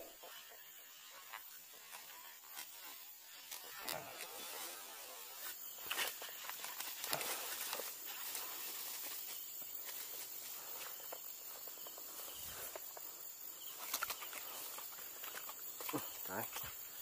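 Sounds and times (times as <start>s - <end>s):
high outdoor hiss: 0.0s - 17.0s
footsteps through grass: 1.0s - 17.0s.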